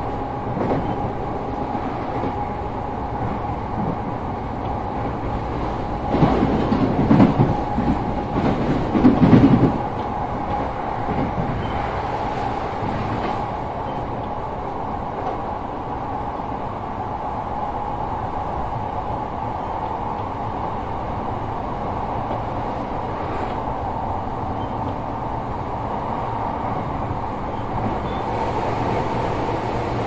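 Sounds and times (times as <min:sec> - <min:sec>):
train rolling drone: 0:00.0 - 0:30.0.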